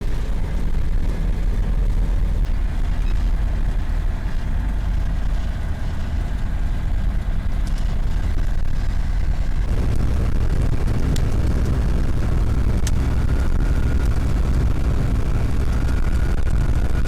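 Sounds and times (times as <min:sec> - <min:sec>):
light aircraft engine rumble: 0:00.0 - 0:17.0.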